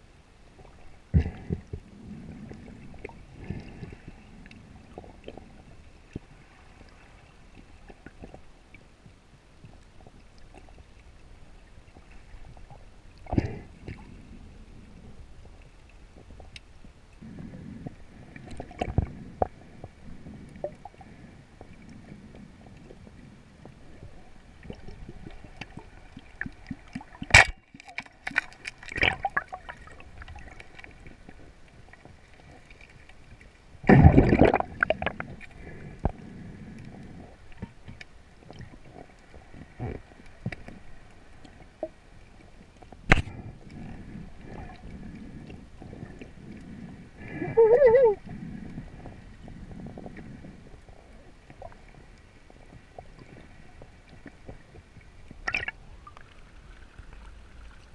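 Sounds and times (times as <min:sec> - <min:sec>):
underwater water movement: 0:00.0 - 0:57.9.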